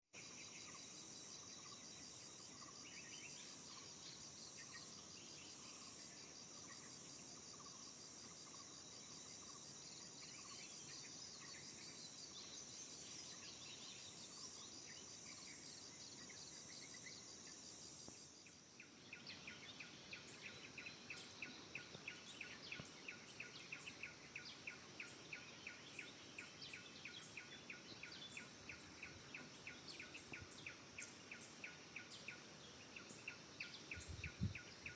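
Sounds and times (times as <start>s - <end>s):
insects trilling: 0.2s - 34.9s.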